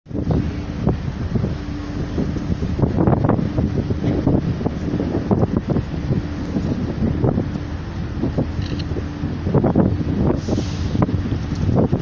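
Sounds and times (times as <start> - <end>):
ferry engine low hum: 0.0 - 12.0
wind buffeting microphone: 0.1 - 12.0.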